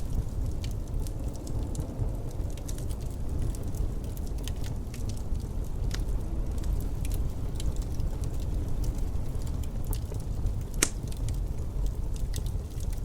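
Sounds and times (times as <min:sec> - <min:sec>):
low rumble of wind: 0:00.0 - 0:13.0
wood fire crackling and popping: 0:00.0 - 0:13.0.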